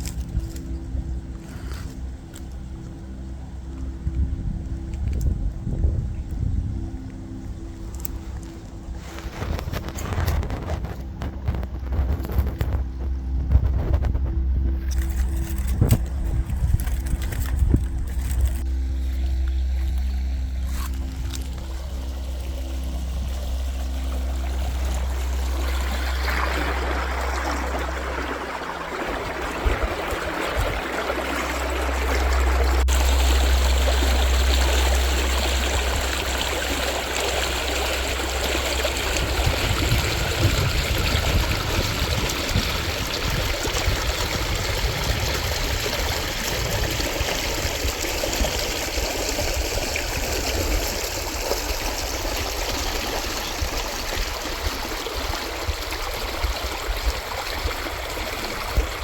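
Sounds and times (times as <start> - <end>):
low rumble: 0.0 - 59.0
running water rushing: 6.8 - 59.0.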